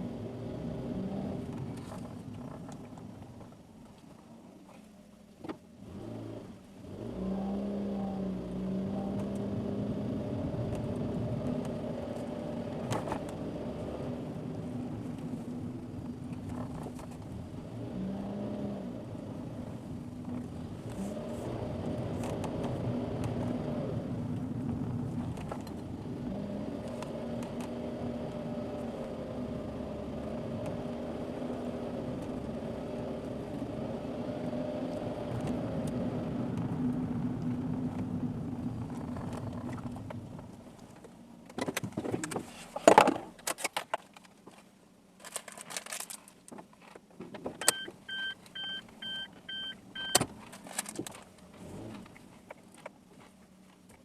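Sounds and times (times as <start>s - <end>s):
car engine running: 0.0s - 42.6s, 47.4s - 54.0s
tyre and road rumble: 0.0s - 54.0s.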